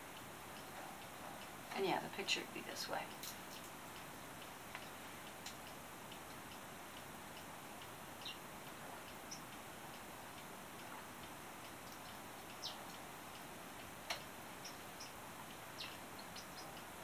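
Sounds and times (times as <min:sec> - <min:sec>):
small clicks and ticks: 0:00.0 - 0:17.0.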